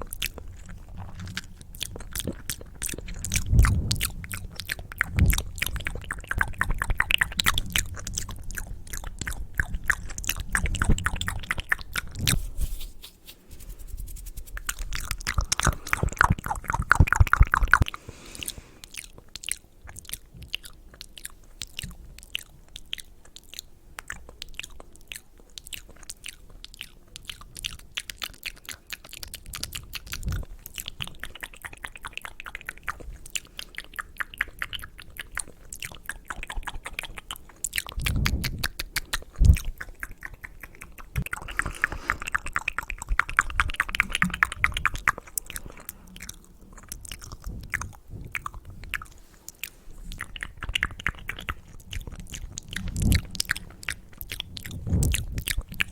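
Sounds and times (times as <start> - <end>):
wet tongue and lip clicks: 0.0 - 13.3, 13.9 - 55.9.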